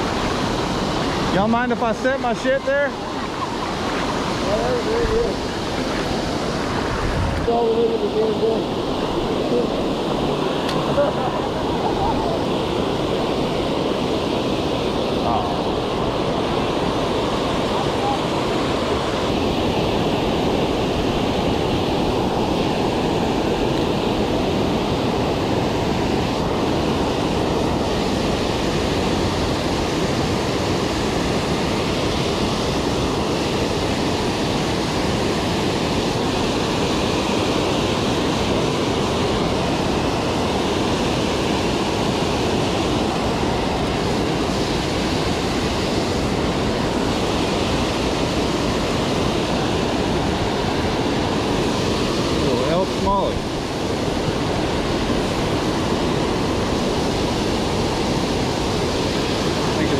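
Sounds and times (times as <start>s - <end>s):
water rushing over a dam: 0.0s - 59.9s.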